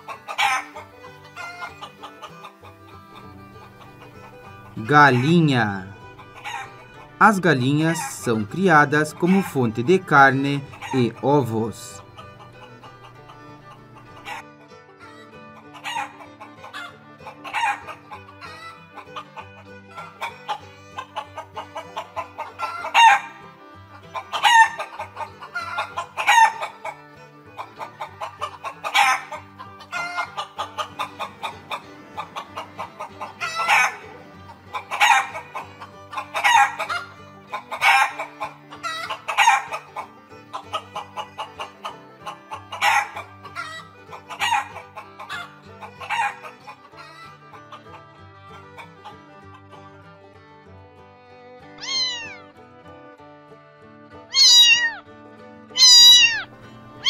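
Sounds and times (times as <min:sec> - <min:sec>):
chickens clucking and cackling: 0:00.0 - 0:50.2, 0:51.6 - 0:52.6, 0:54.2 - 0:55.0, 0:55.7 - 0:57.0
quiet background music: 0:00.0 - 0:57.0.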